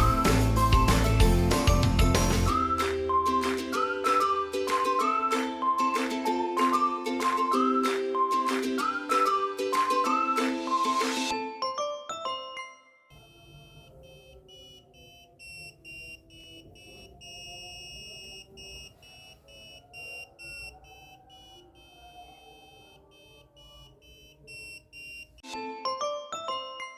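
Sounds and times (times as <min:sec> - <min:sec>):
electronic ringtone beeping: 0:00.0 - 0:26.9.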